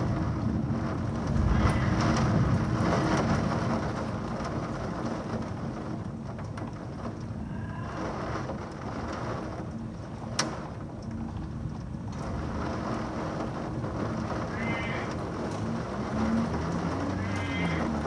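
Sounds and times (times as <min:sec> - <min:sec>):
heavy rain: 0:00.0 - 0:18.0
thunder rumble: 0:00.0 - 0:18.0
wind: 0:00.0 - 0:18.0.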